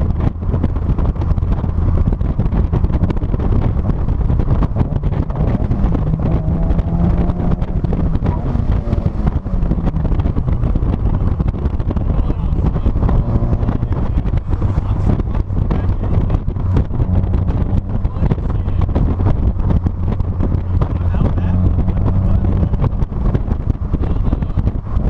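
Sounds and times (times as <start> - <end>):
car engine running: 0.0 - 25.0
road rumble: 0.0 - 25.0
wind buffeting microphone: 0.0 - 25.0.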